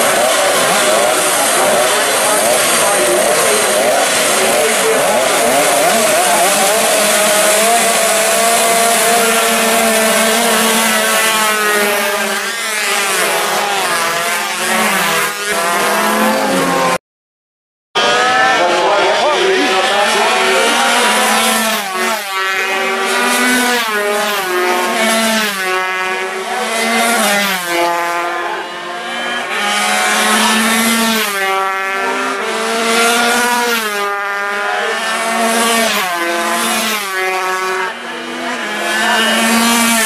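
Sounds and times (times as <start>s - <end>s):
racing motorcycles accelerating: 0.0s - 17.0s, 18.0s - 40.0s.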